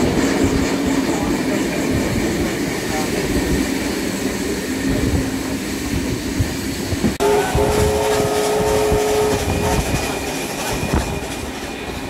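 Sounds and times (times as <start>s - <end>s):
train carriages rumbling: 0.0s - 12.0s.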